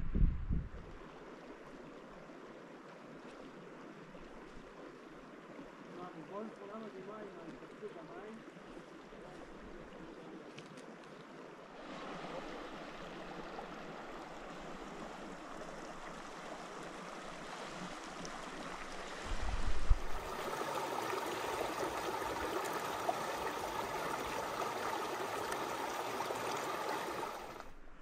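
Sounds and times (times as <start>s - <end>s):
stream water rushing: 1.0s - 27.8s.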